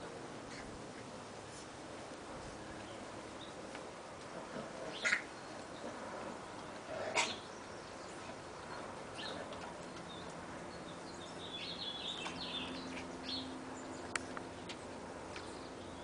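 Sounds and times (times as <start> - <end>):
small birds chirping: 0.5 - 16.0.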